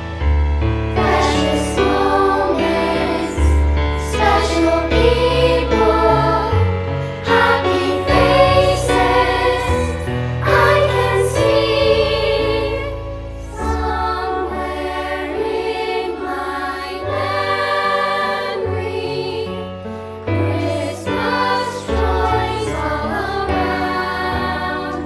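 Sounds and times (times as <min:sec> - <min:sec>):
choir singing with instruments: 0:00.0 - 0:25.0.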